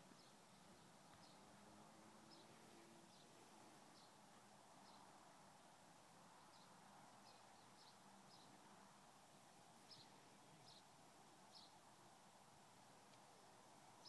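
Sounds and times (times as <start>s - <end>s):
distant birds chirping: 0.0s - 14.0s.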